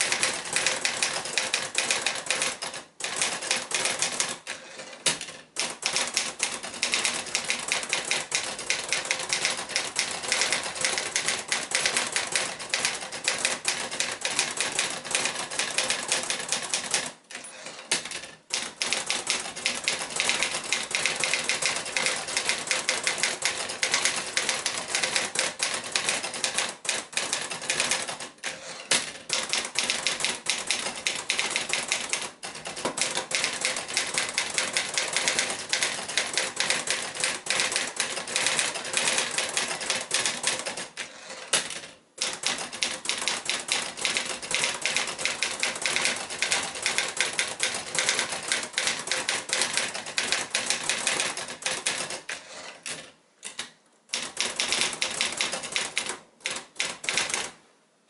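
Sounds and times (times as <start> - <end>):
manual typewriter typing: 0.0 - 57.6.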